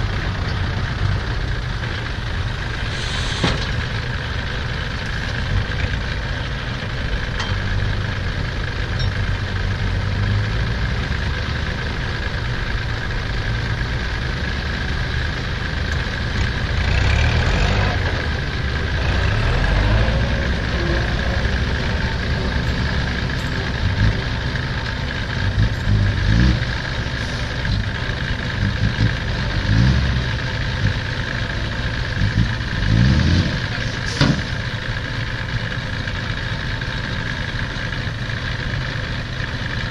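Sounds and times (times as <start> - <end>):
diesel engines idling: 0.0 - 39.9.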